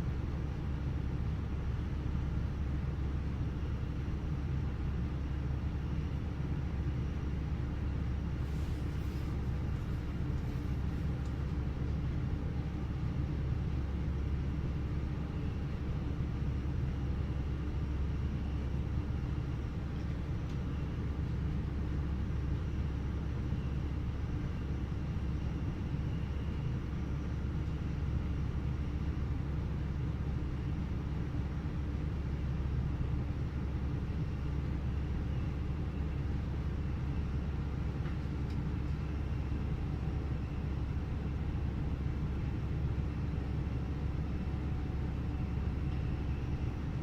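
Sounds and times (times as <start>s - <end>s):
train rumble inside carriage: 0.0s - 47.0s.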